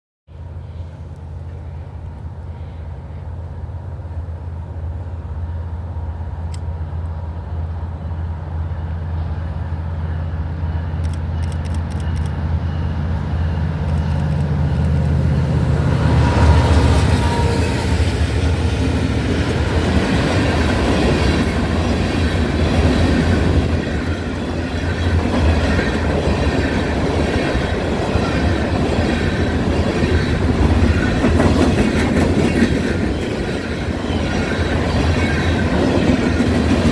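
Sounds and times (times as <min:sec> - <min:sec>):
diesel locomotive drone: 0:00.3 - 0:36.9
train wheels rumbling on rails: 0:00.4 - 0:36.9.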